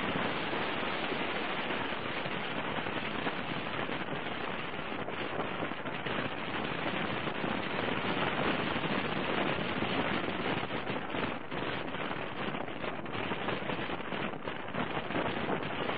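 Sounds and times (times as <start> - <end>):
wind and rain on microphone: 0.0 - 15.9.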